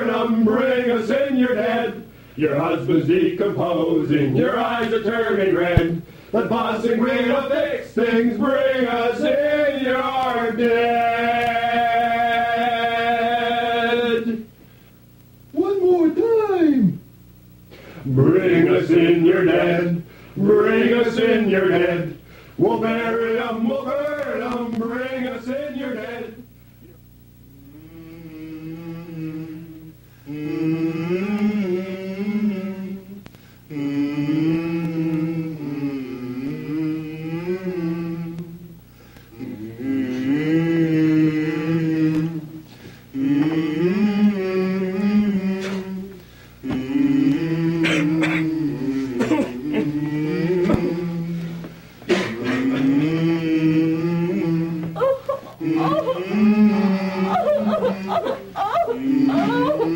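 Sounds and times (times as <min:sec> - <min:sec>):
male vocal group singing: 0:00.0 - 0:14.5, 0:18.0 - 0:26.5, 0:27.6 - 0:59.9.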